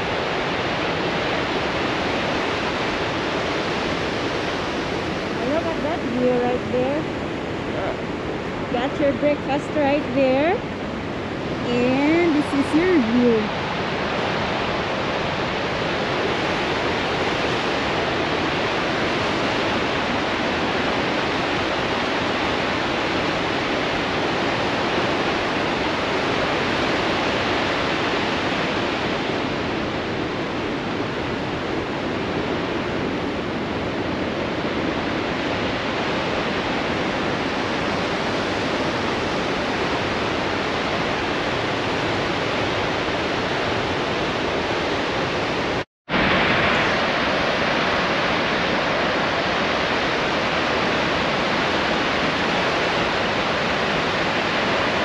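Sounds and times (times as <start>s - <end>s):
rushing waterfall and rapids: 0.0s - 55.0s.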